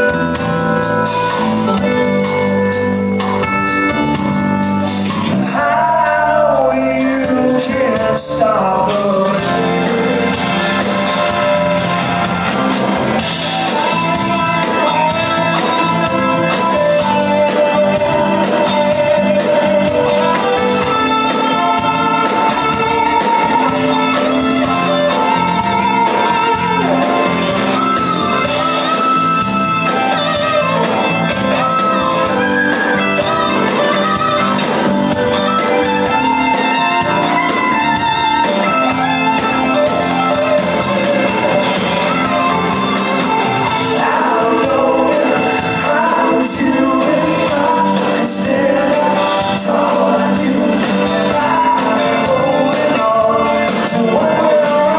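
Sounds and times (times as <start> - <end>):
drums: 0.0 - 54.9
electric guitar bending notes: 0.0 - 54.9.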